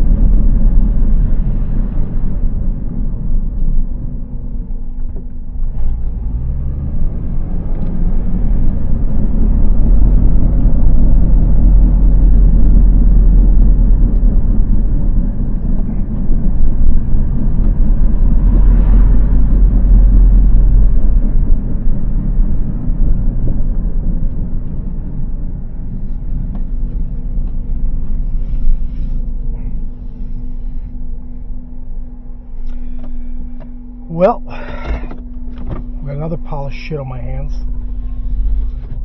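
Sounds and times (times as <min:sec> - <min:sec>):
road noise: 0:00.0 - 0:39.0.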